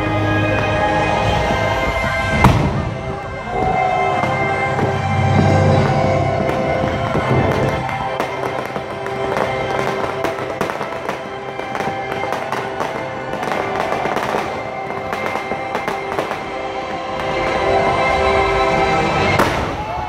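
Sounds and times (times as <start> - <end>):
fireworks crackling and popping: 0.0 - 20.0
show music: 0.0 - 20.0.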